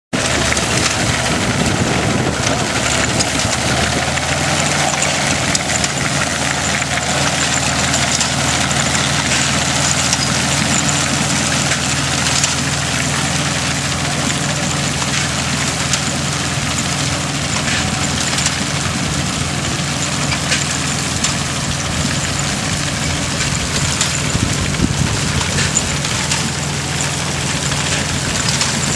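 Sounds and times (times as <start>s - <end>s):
tractor engine running: 0.1s - 28.9s
binder clatter: 0.2s - 28.9s.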